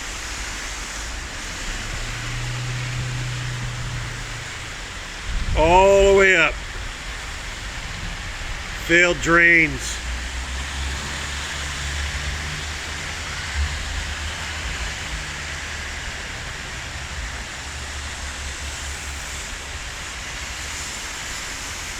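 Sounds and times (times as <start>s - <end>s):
heavy rain: 0.0s - 21.9s
water rushing over street: 0.0s - 21.9s.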